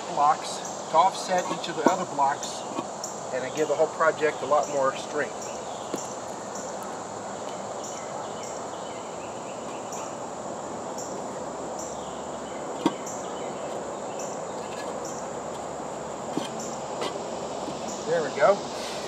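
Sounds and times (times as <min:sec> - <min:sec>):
background hiss: 0:00.0 - 0:19.0
insects chirping: 0:00.0 - 0:19.0
steady high buzz: 0:00.0 - 0:19.0.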